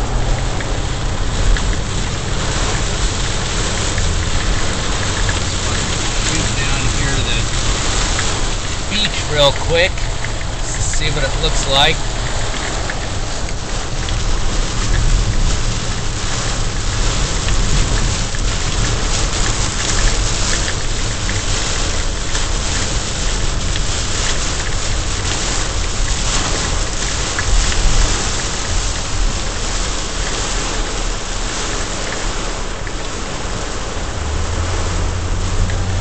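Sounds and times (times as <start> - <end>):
car driving rumble: 0.0 - 36.0
heavy rain drumming on car roof: 0.0 - 36.0.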